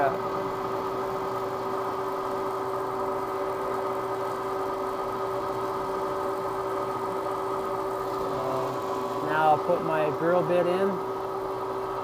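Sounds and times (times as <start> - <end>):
drill press humming and whining: 0.0 - 12.0.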